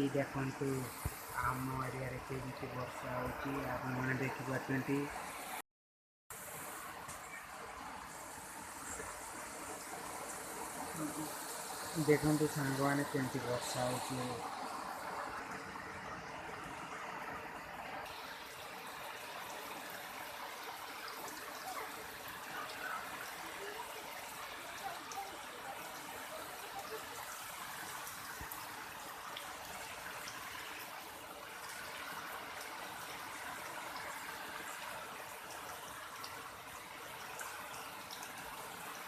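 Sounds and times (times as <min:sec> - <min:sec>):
heavy rain hissing: 0:00.0 - 0:05.6, 0:06.3 - 0:39.0
water drips and splashes: 0:00.0 - 0:05.6, 0:06.3 - 0:39.0.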